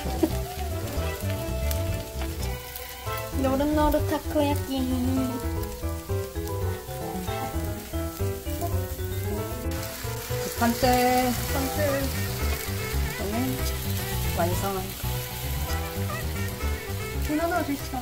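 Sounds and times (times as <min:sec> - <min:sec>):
background music: 0:00.0 - 0:18.0
food sizzling in a pan: 0:00.0 - 0:18.0.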